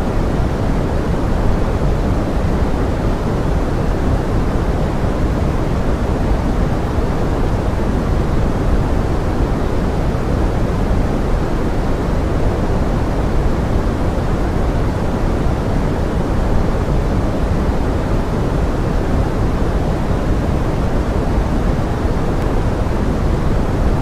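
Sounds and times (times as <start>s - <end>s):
pink noise: 0.0s - 24.0s.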